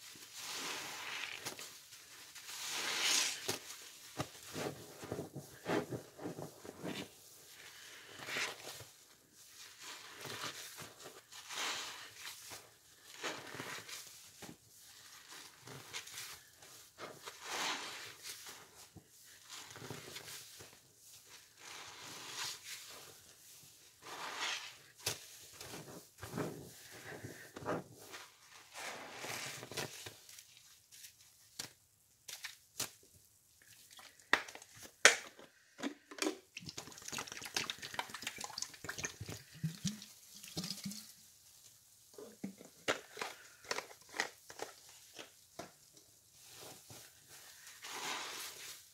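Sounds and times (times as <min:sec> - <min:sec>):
wet sponges squished: 0:00.2 - 0:33.0, 0:33.6 - 0:35.4, 0:36.2 - 0:48.9.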